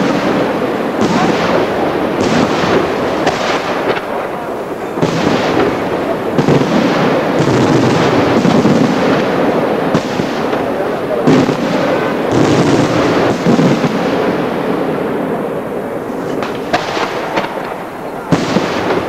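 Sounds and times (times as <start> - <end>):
firework shells bursting: 0.0 - 14.5, 16.3 - 19.0.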